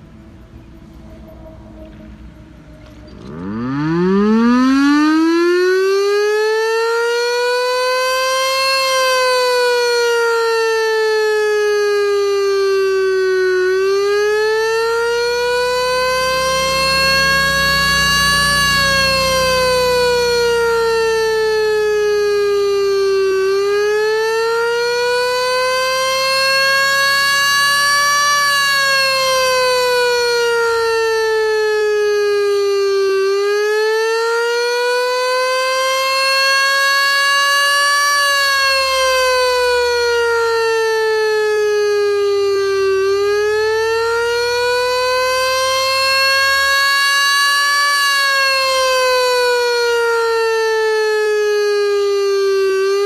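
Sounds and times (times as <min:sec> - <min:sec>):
electronic warning siren: 0:00.0 - 0:53.0.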